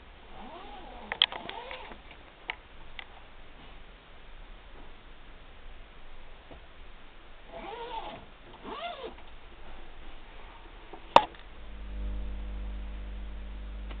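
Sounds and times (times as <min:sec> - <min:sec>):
steady low hum: 0:02.2 - 0:14.0.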